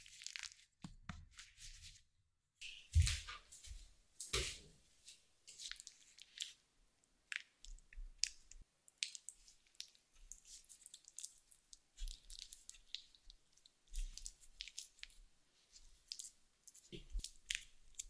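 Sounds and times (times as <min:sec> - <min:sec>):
dough squishing and crackling: 0:00.0 - 0:02.1, 0:05.1 - 0:18.0.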